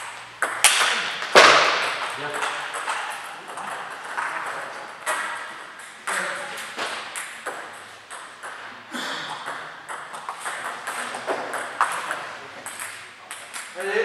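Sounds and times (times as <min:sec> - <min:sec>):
ball bouncing on table: 0:00.4 - 0:14.0.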